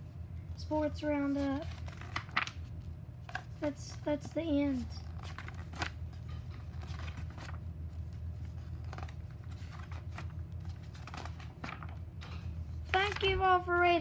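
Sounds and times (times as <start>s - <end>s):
steady low hum: 0.0s - 14.0s
book pages rustling and flicking: 1.1s - 14.0s.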